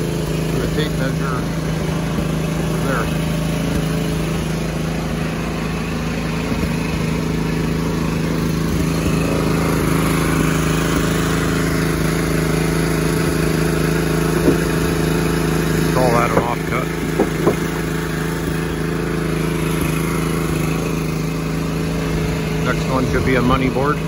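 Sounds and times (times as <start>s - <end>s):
gasoline engine running steadily: 0.0s - 24.0s.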